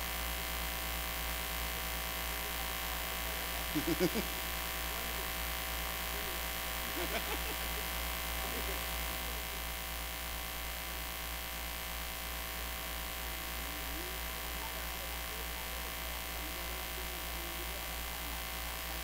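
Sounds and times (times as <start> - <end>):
electrical mains hum: 0.0 - 19.0
faint voices: 2.0 - 11.4, 12.2 - 19.0.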